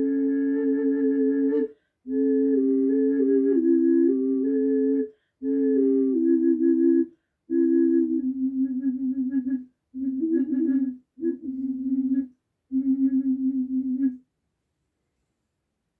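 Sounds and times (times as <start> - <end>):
ocarina playing a tune: 0.0 - 14.2.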